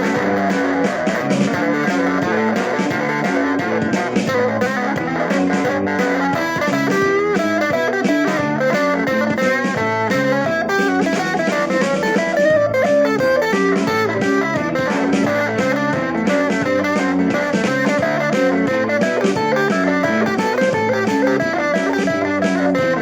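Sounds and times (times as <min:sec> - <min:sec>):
quick plucked guitar notes: 0:00.0 - 0:23.0.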